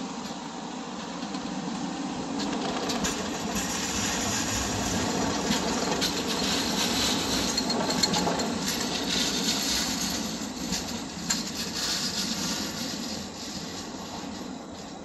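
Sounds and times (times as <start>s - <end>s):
tram rolling on rails: 0.0s - 15.0s.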